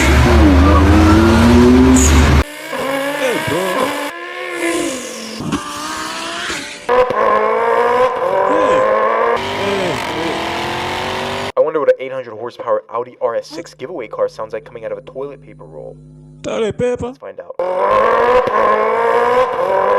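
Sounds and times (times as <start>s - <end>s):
person imitating race-car engine: 0.0s - 11.2s, 13.4s - 15.0s, 16.4s - 19.9s.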